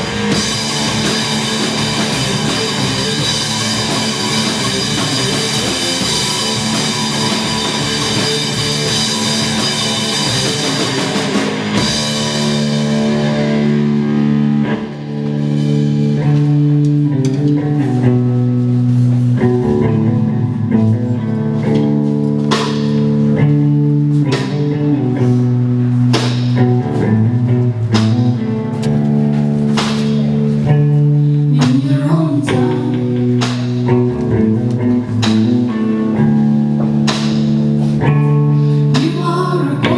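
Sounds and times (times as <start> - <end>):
live rock band: 0.0 - 39.9.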